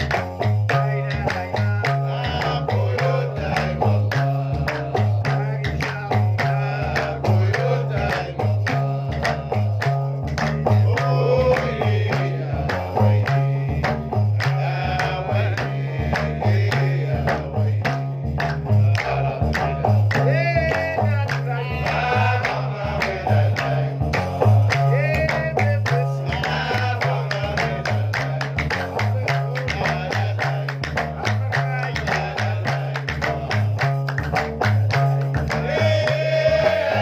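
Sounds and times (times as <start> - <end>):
men singing: 0.0 - 37.0
percussive clicks: 0.0 - 37.0
plucked bass lute riff: 0.0 - 37.0.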